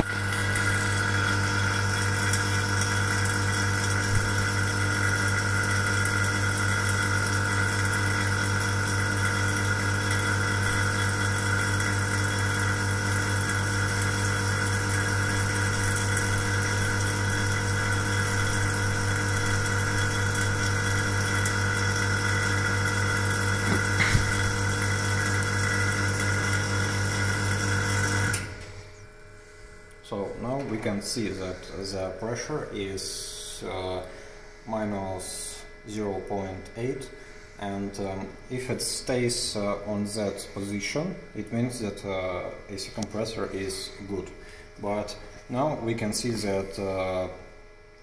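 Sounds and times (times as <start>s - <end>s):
vacuum pump humming: 0.0s - 48.0s.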